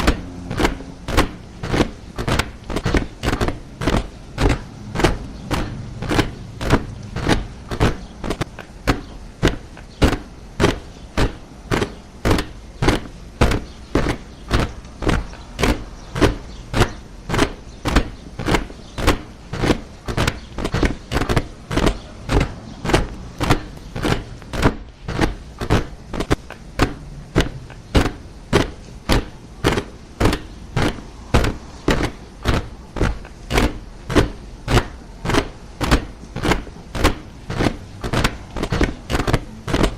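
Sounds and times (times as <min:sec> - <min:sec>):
soldiers marching in step: 0:00.0 - 0:39.9.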